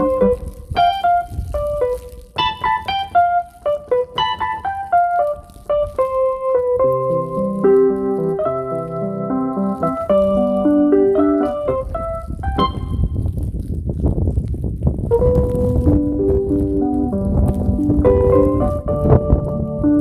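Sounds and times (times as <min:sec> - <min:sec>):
sustained keyboard chords: 0:00.0 - 0:13.1, 0:15.1 - 0:20.0
keyboard melody: 0:00.0 - 0:13.2, 0:15.1 - 0:20.0.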